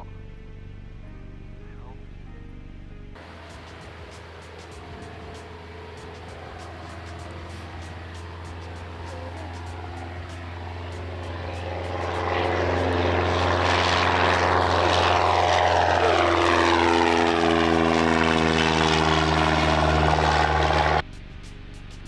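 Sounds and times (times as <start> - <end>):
airplane engine and propeller: 3.2 - 22.0.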